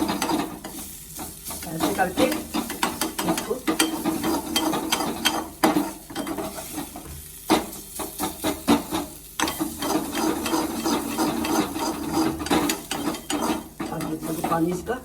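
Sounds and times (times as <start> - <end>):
ginger sizzling in oil: 0.0 - 15.0
spatula scraping a pan: 0.0 - 15.0.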